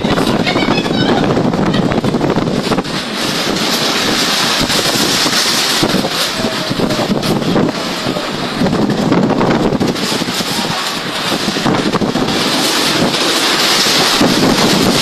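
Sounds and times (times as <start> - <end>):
gusting wind: 0.0 - 15.0
heavy rain: 0.0 - 15.0
wind buffeting microphone: 0.0 - 15.0.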